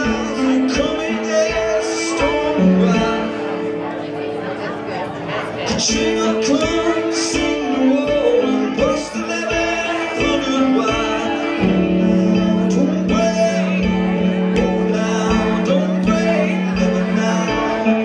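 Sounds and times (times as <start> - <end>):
steady drum beat: 0.0 - 3.4, 5.7 - 18.0
man singing: 0.0 - 3.7, 5.6 - 18.0
amplified electric guitar: 0.0 - 18.0.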